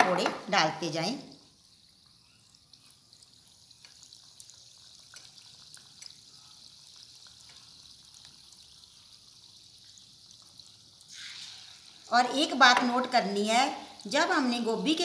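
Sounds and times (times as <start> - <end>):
deep-frying sizzle and pops: 0.0 - 15.0.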